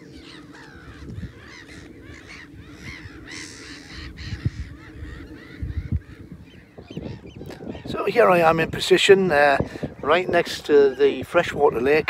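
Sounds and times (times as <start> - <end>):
waterbirds calling: 0.0 - 12.0
wind rumble on microphone: 0.0 - 12.0.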